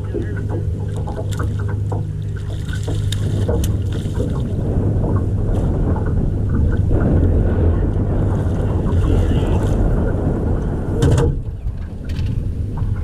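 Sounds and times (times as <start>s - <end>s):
boat motor humming: 0.0s - 13.0s
rush of moving water: 0.0s - 13.0s.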